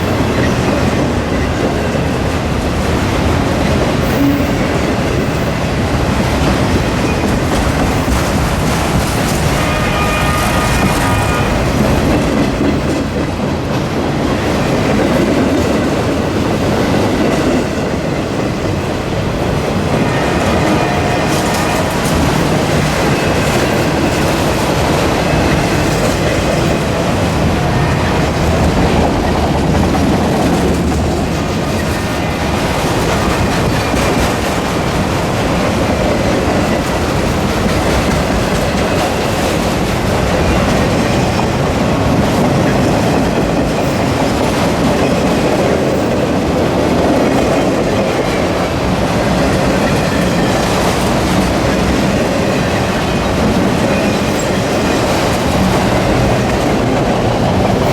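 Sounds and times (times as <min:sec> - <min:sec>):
freight train wheels clattering: 0:00.0 - 0:57.9.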